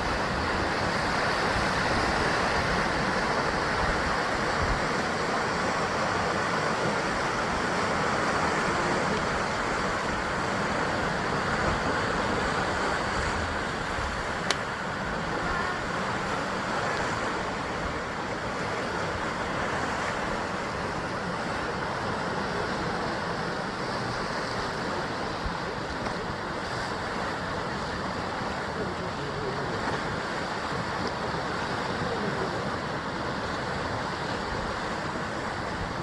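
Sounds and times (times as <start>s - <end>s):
sea waves washing against rocks: 0.0s - 36.0s.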